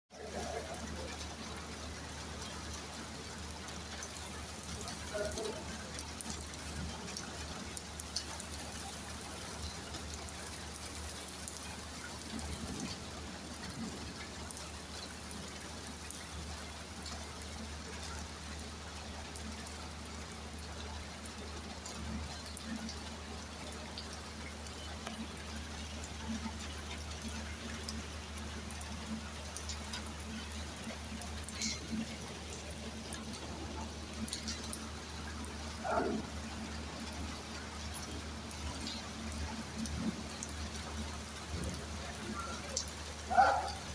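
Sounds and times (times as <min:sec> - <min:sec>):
heavy rain falling: 0:00.1 - 0:43.9
raindrops hitting surfaces: 0:00.1 - 0:43.9.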